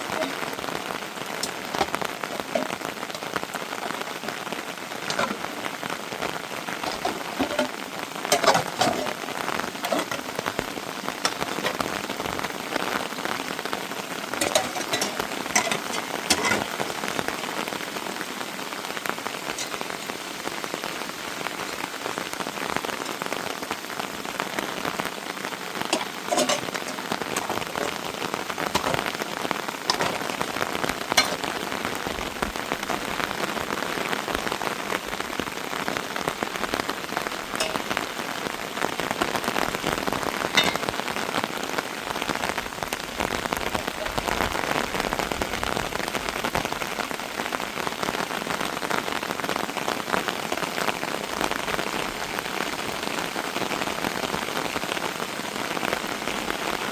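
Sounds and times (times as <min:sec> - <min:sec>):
heavy rain falling: 0:00.0 - 0:56.9
sharp ticks of raindrops: 0:00.0 - 0:56.9.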